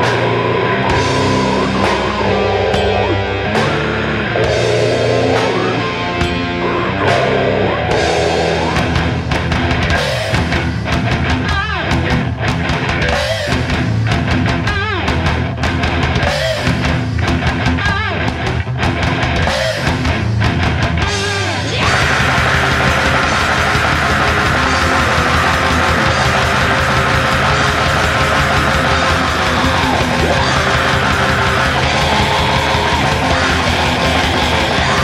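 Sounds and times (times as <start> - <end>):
metal band playing: 0.0 - 35.0.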